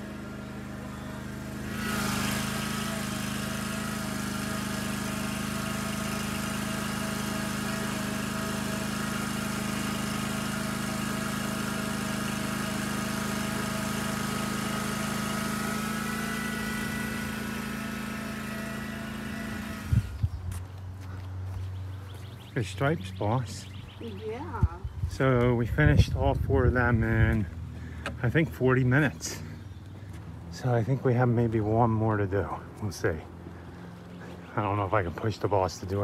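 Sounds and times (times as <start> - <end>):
lawn mower engine running: 0.0 - 36.0.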